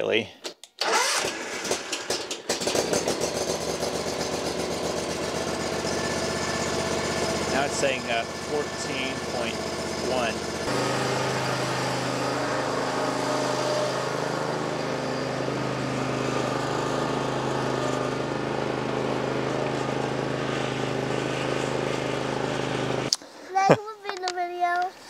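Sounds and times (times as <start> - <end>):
riding mower engine running: 0.8 - 23.1.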